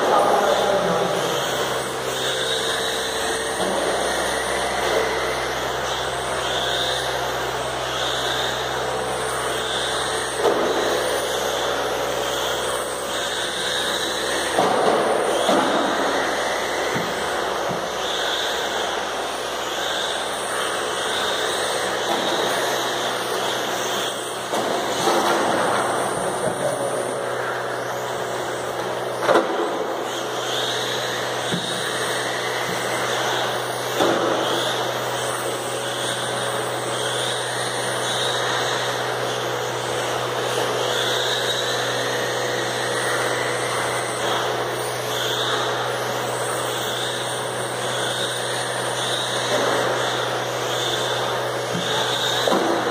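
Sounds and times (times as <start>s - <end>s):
model car motors whining: 0.0s - 52.9s.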